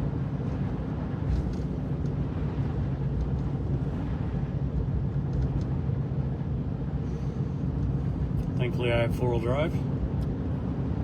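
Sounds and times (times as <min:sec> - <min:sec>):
vehicle engine and tyres on snow: 0:00.0 - 0:11.0.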